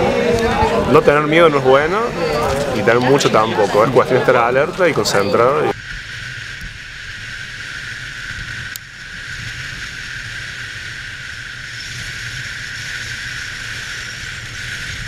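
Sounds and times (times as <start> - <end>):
wheels rolling on asphalt: 0.0 - 15.0
wind rushing over camera: 0.0 - 15.0.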